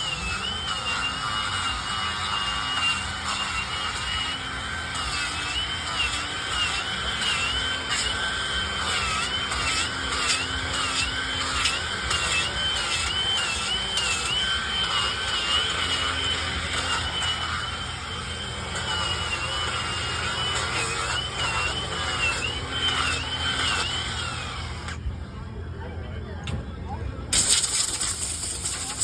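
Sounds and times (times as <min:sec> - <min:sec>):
power tool carving wood: 0:00.0 - 0:25.0, 0:27.4 - 0:29.0.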